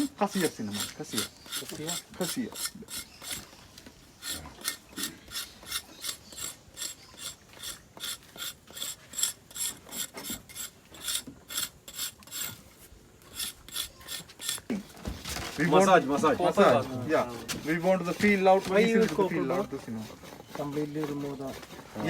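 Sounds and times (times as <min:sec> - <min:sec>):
bark being scraped: 0:00.0 - 0:15.0, 0:15.6 - 0:22.0.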